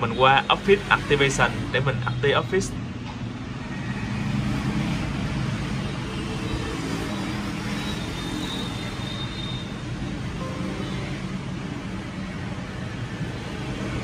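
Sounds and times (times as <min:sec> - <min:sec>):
road traffic with engine hum: 0:00.0 - 0:14.0.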